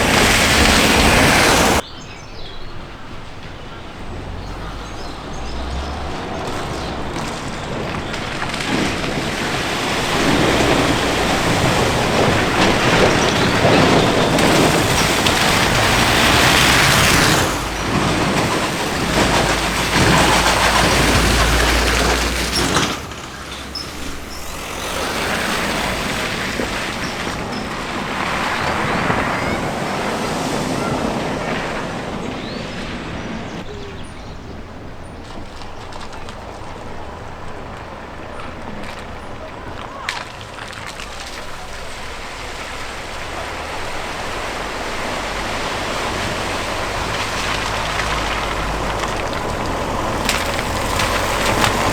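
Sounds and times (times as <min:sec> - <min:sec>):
car engine: 0:00.0 - 0:01.8, 0:02.9 - 0:51.9
water splashing: 0:00.0 - 0:01.8, 0:02.7 - 0:51.9.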